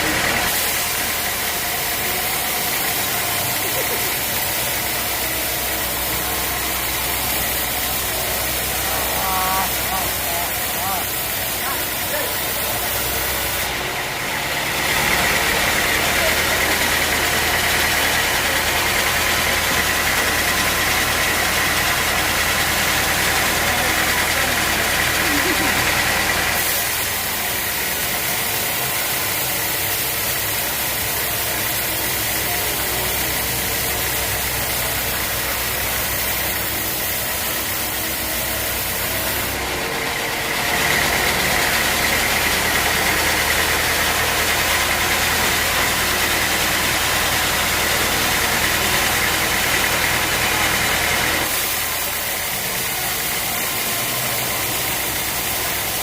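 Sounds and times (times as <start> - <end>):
sawmill engine drone: 0.0 - 56.0.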